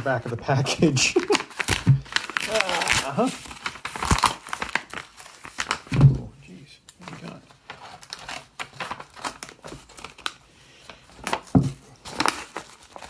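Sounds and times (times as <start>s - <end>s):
paper envelope crinkling and tearing: 0.0s - 6.0s, 6.8s - 13.0s.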